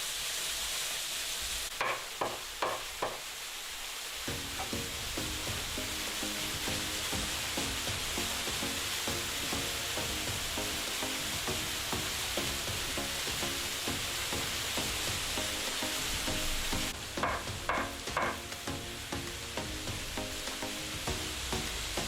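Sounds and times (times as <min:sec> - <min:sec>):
steady hiss: 0:00.0 - 0:22.0
plucked background music: 0:04.3 - 0:22.0.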